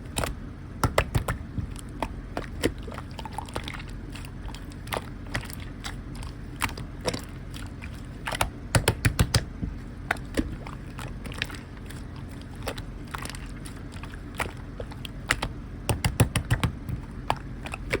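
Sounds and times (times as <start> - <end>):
slime squishing with clicks and pops: 0.0 - 18.0.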